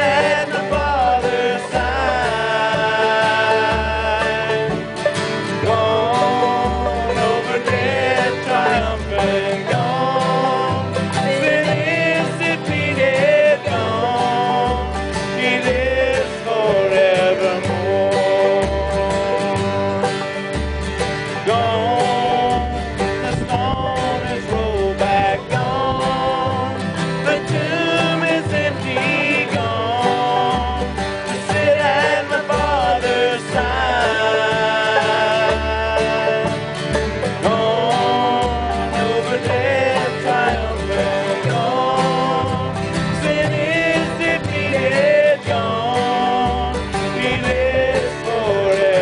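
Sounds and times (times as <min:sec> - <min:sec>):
banjo: 0:00.0 - 0:49.0
bass line: 0:00.0 - 0:49.0
bluegrass band music: 0:00.0 - 0:49.0
plucked guitar: 0:00.0 - 0:49.0.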